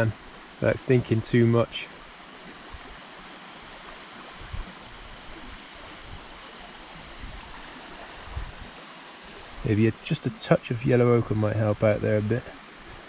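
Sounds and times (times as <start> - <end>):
small waterfall rushing: 0.0 - 13.0.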